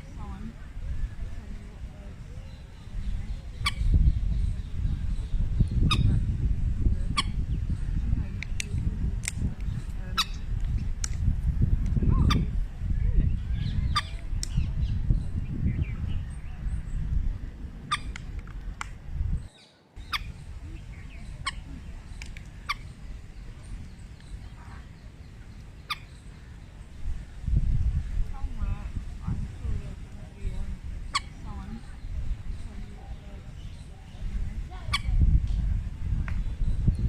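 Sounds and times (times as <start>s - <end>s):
birds chirping: 0.0s - 37.0s
dense low rumble: 0.0s - 37.0s.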